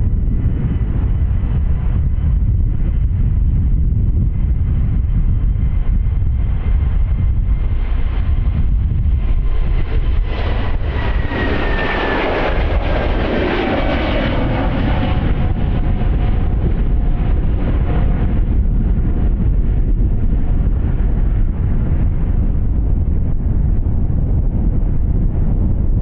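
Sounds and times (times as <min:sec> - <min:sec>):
jet engine whine: 0:00.0 - 0:26.0
jet engines rumbling: 0:00.0 - 0:26.0.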